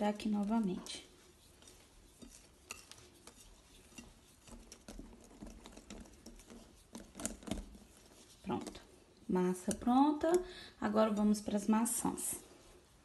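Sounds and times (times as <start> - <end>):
whisk stirring batter in bowl: 0.0 - 13.0.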